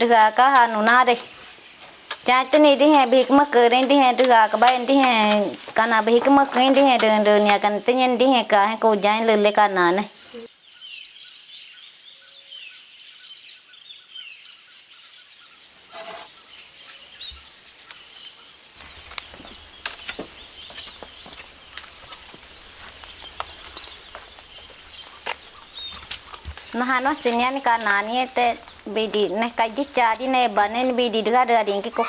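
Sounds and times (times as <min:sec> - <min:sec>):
birds chirping: 0:00.0 - 0:11.7, 0:15.6 - 0:32.0.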